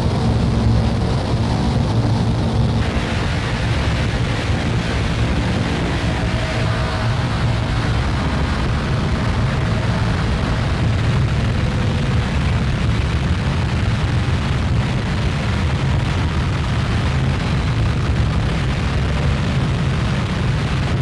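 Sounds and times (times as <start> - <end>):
electronic drone-noise music: 0.0 - 21.0.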